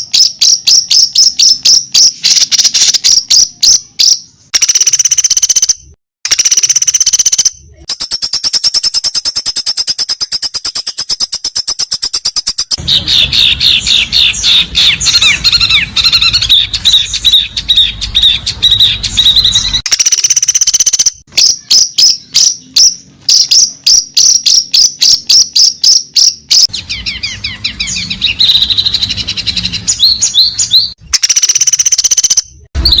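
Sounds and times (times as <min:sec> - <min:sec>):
songbird chirps and trills: 0:00.0 - 0:33.0.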